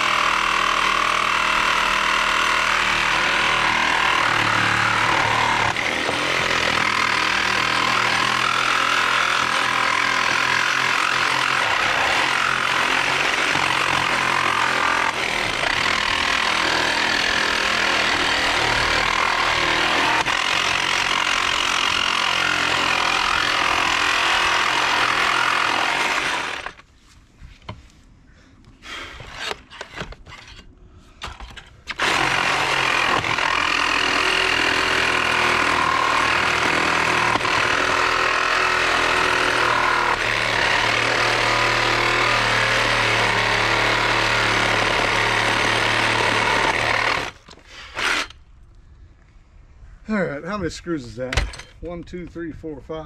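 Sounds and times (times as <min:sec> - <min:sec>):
reciprocating saw cutting: 0:00.0 - 0:26.8, 0:31.9 - 0:48.4.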